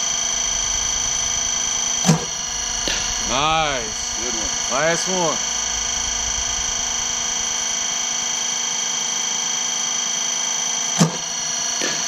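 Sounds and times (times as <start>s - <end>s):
high-pitched whine: 0.0s - 9.8s.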